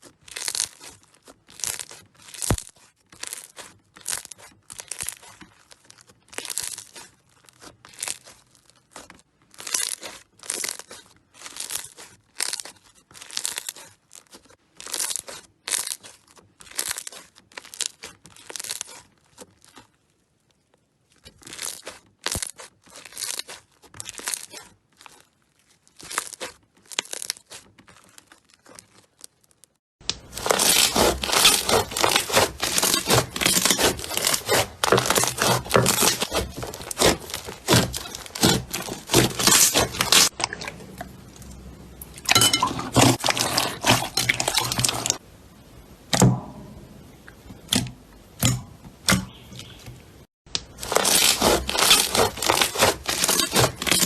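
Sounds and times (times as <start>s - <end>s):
slime crackling and popping: 0.0s - 45.2s, 50.5s - 54.0s.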